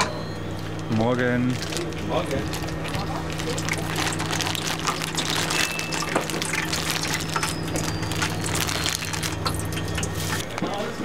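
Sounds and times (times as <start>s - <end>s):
steady low hum: 0.0s - 11.0s
plastic bag rustling: 0.7s - 10.5s
wet liquid pouring and slithering: 1.5s - 10.4s.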